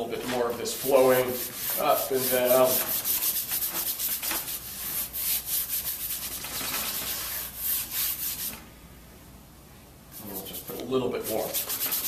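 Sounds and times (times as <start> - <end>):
paintbrush scrubbing on canvas: 0.2 - 8.6, 10.2 - 12.0.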